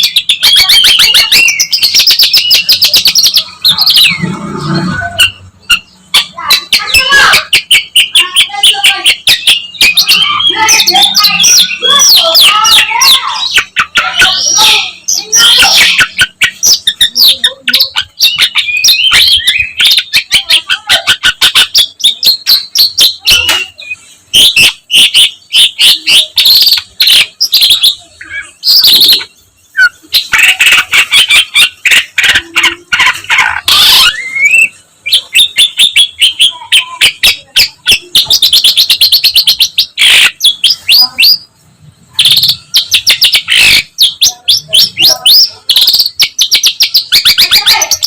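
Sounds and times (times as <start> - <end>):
bird singing chattering notes: 0.0 - 48.0.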